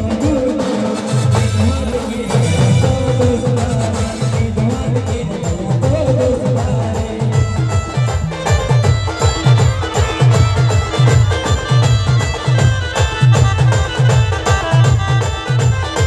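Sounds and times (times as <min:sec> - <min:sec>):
folk dance band music: 0:00.0 - 0:16.0
heavy bass beat: 0:01.3 - 0:16.0.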